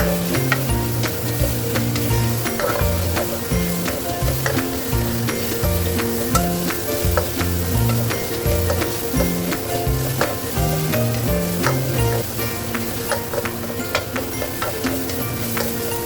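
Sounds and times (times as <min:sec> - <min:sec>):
background music with low notes: 0:00.0 - 0:16.0
food sizzling in a pan: 0:00.0 - 0:16.0
utensil scraping a pan: 0:00.0 - 0:16.0.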